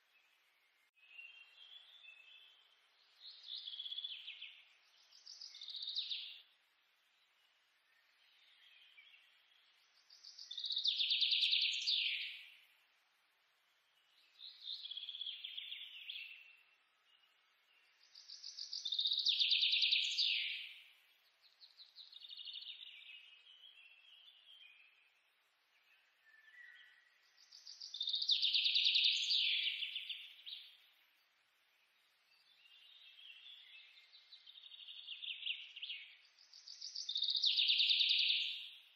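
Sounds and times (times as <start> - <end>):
bird trilling song: 1.0 - 6.5, 8.0 - 12.7, 13.9 - 25.1, 25.7 - 30.9, 32.3 - 38.9.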